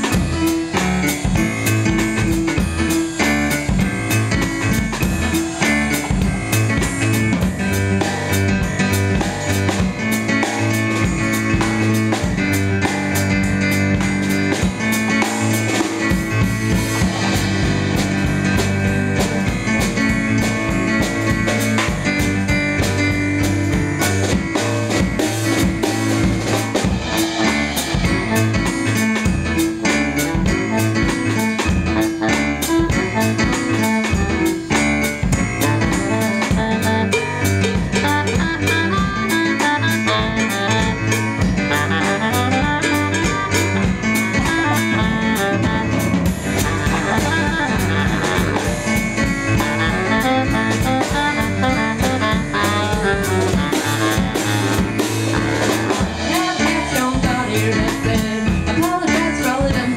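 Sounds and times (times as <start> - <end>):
drum kit steady beat: 0.0 - 59.9
keyboard: 0.0 - 59.9
saxophone: 0.0 - 59.9.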